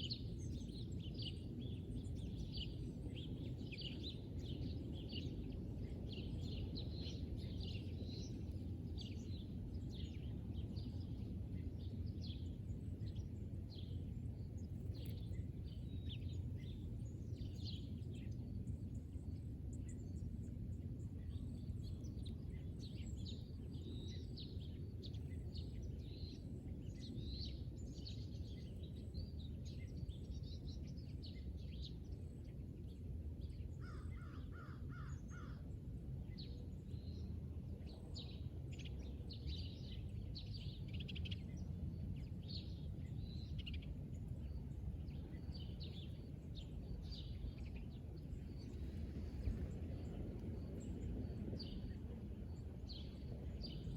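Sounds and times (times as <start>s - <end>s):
small birds chirping: 0.0s - 20.6s, 21.2s - 53.9s
low background rumble: 0.0s - 53.9s.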